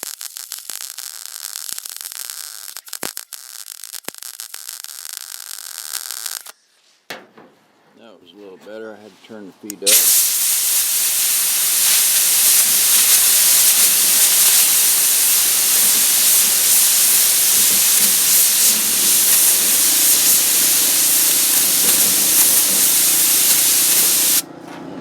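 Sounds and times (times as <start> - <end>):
welder hissing crackle: 0.0 - 6.5, 9.8 - 24.4.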